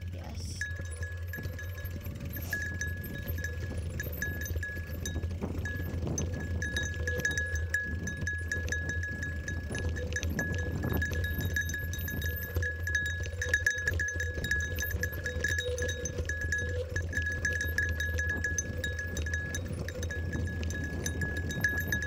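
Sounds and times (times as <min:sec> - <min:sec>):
bike rumbling on dirt trail: 0:00.0 - 0:22.0
high metallic ringing: 0:00.0 - 0:22.0.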